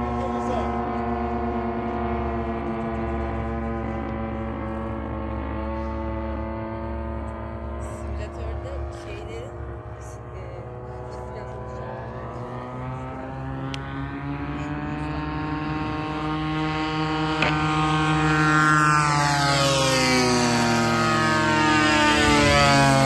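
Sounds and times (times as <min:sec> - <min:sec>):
propeller aircraft engines passing: 0:00.0 - 0:23.0.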